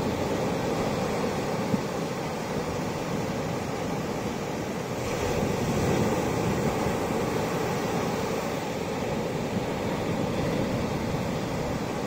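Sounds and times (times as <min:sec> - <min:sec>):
surf washing up a beach: 0:00.0 - 0:12.0.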